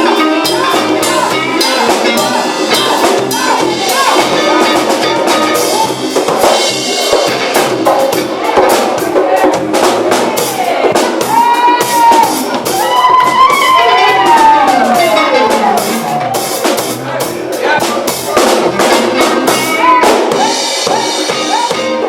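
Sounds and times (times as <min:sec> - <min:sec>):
drum kit beat: 0:00.0 - 0:22.0
funk band playing: 0:00.0 - 0:22.0.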